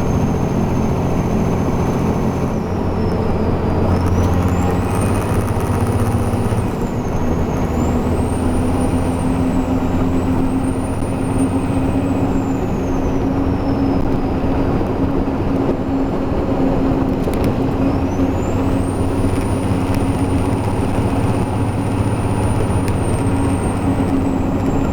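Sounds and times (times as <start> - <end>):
road noise: 0.0 - 24.9
truck diesel engine running: 0.0 - 24.9.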